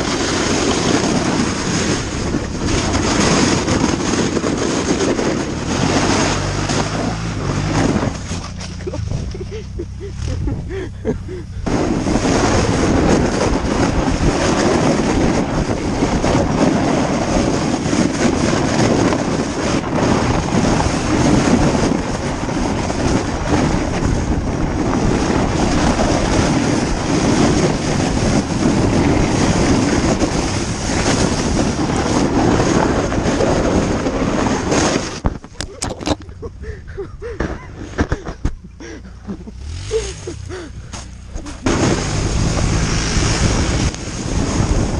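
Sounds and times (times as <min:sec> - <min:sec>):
atv engine running: 0:00.0 - 0:44.9
sled scraping and hissing over snow: 0:00.0 - 0:44.9
wind on the camera: 0:00.0 - 0:44.9.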